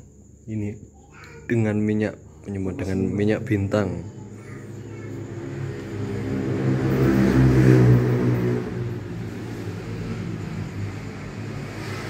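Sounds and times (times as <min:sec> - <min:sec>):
vehicle engine passing: 0:02.2 - 0:12.0.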